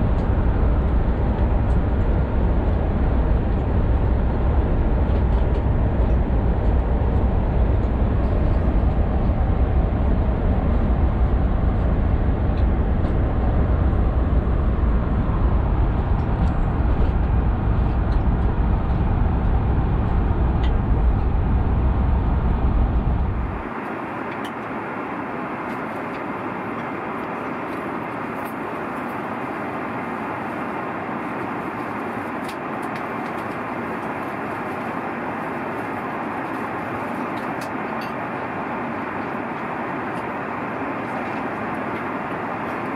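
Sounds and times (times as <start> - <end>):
airliner cabin rumble: 0.0 - 42.9.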